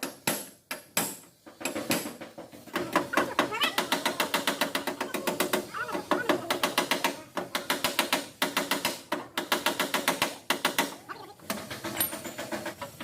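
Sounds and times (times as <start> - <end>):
tapping on sheet metal: 0.0 - 10.9.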